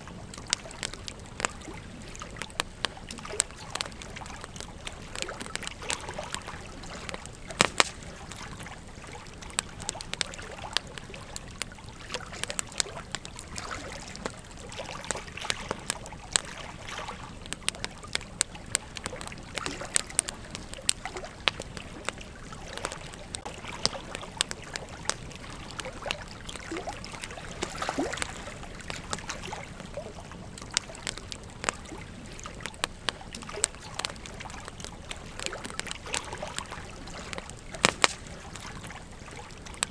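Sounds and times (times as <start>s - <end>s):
campfire crackling: 0.0s - 39.9s
soft fire hiss: 0.0s - 39.9s
wood popping and snapping: 0.2s - 39.9s.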